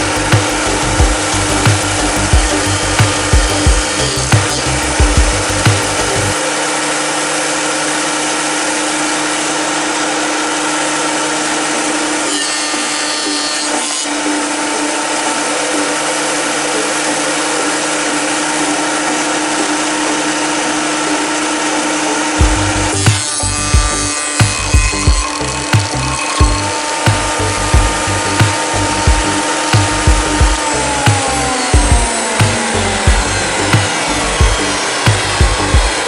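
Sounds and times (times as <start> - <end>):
thickness planer running: 0.0 - 36.0.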